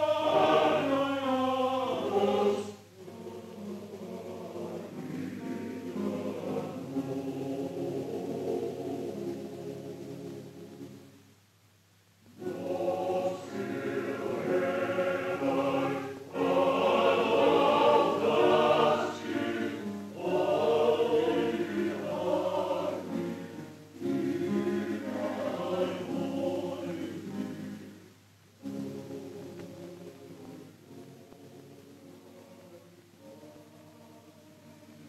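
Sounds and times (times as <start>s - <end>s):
choir singing: 0.0s - 11.1s, 12.3s - 35.0s.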